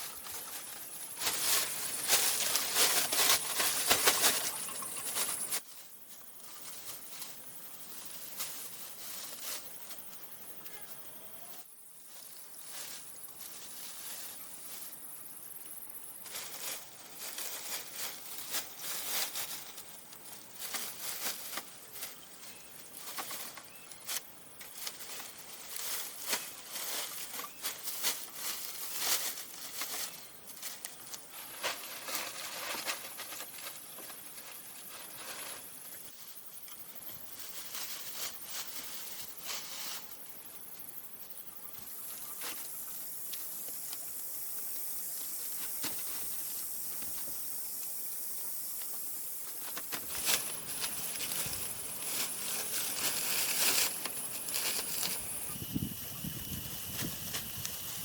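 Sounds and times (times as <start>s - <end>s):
rustling and crackling: 0.0s - 10.8s, 11.5s - 40.9s, 42.0s - 48.0s, 48.7s - 58.0s
steady high hiss: 0.0s - 58.0s.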